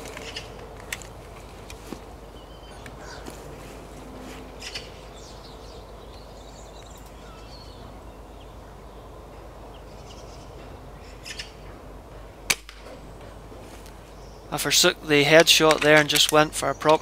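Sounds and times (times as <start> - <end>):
harsh bird calls: 0.0 - 0.7, 2.1 - 12.4, 13.1 - 17.0
birds chirping: 0.0 - 17.0.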